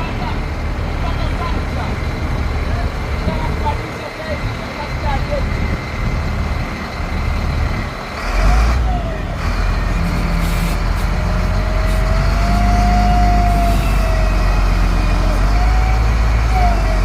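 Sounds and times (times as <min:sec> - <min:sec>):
diesel machine rumbling: 0:00.0 - 0:17.0.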